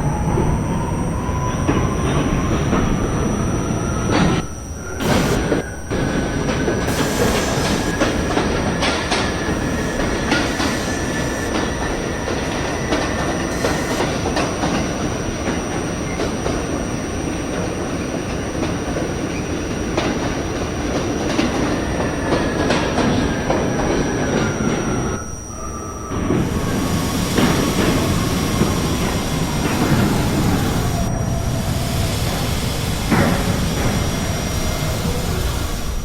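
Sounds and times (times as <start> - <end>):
faint train whine: 0.0 - 36.0
train wheels rumbling on rails: 0.0 - 36.0
track clicks: 0.1 - 36.0.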